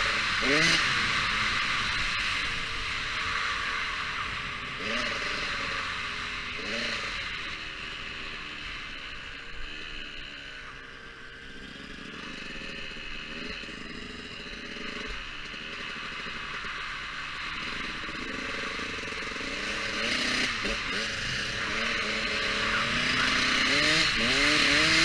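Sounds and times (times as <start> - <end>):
motocross bike engine revving: 0.0 - 25.0.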